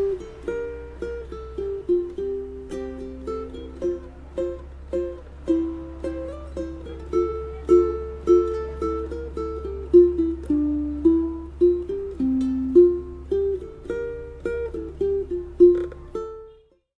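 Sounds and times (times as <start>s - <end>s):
ukulele plucked melody: 0.0s - 16.9s.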